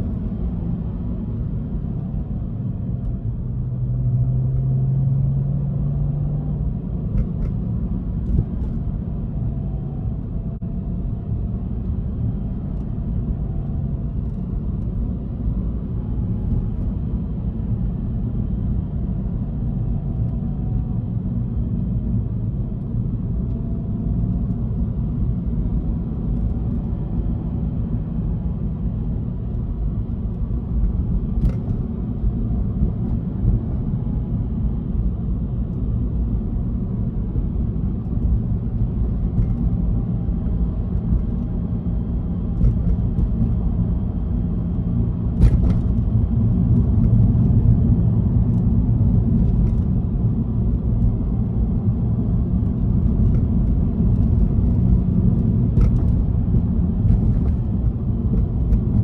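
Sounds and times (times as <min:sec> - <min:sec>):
car engine droning: 0:00.0 - 0:59.0
tyre and road noise: 0:00.0 - 0:59.0.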